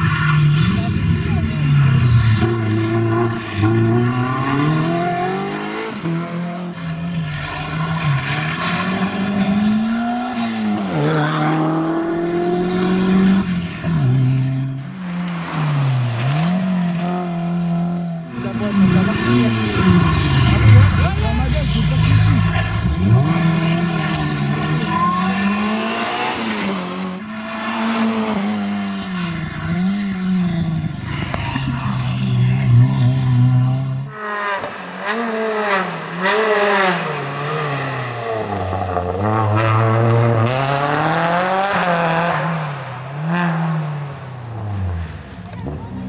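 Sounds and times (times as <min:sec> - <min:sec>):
rally car engines revving hard: 0:00.0 - 0:46.0.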